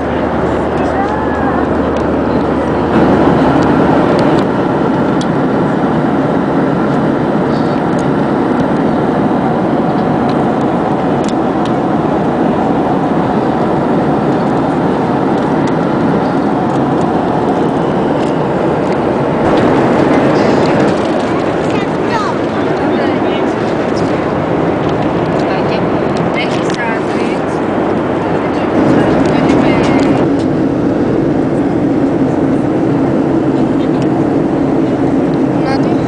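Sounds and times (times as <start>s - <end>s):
airplane cabin engine rush: 0.0s - 36.0s.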